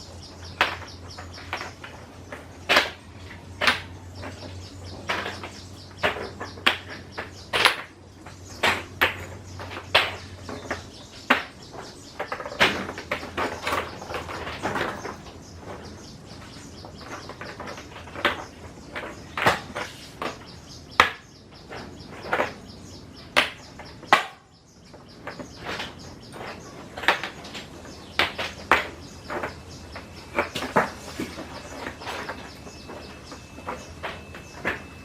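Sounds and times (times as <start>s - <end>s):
sharp clicks and knocks: 0.0s - 35.0s.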